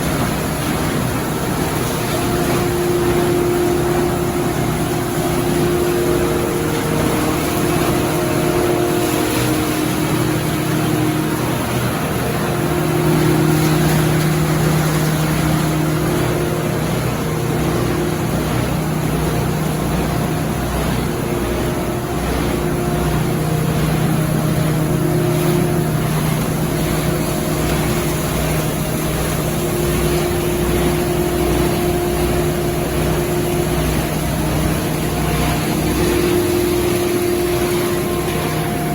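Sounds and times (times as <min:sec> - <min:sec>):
high steady machine tones: 0:00.0 - 0:38.9
machinery running: 0:00.0 - 0:38.9.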